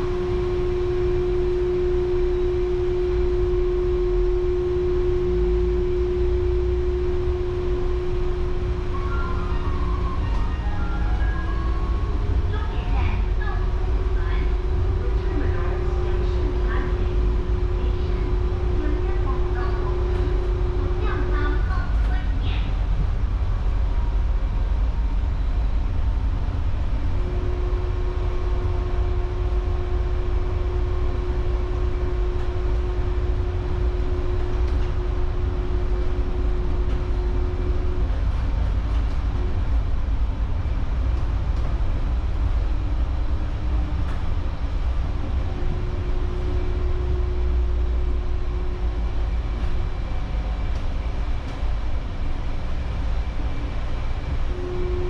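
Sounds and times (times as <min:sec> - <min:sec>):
steady humming tone: 0:00.0 - 0:55.0
train low rumble: 0:00.0 - 0:55.0.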